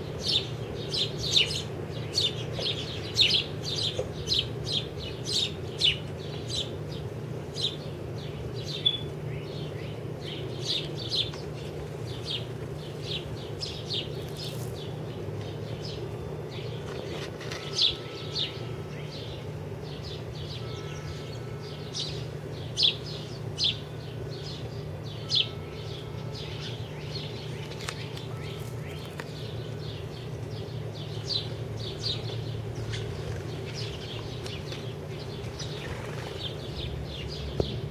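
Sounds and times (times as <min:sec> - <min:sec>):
sparrows chirping: 0:00.0 - 0:37.9
steady low hum: 0:00.0 - 0:37.9.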